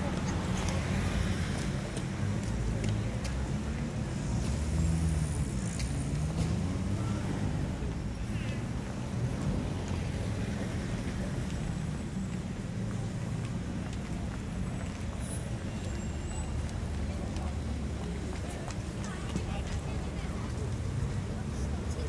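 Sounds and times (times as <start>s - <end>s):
low rumble of street traffic: 0.0s - 22.0s.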